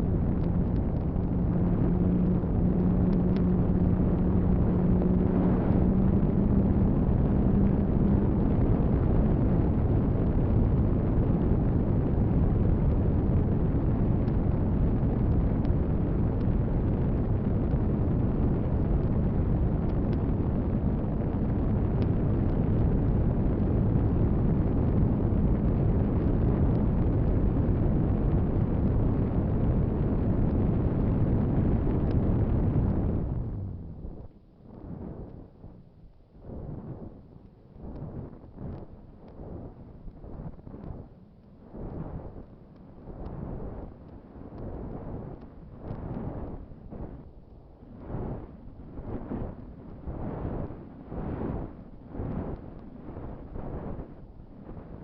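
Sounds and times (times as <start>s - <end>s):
faint low hum: 0.0s - 55.0s
wind rushing on microphone: 0.0s - 55.0s.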